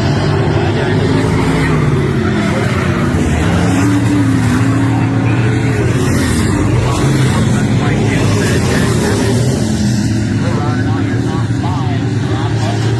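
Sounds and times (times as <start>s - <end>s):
race car engine running hard: 0.0s - 12.9s.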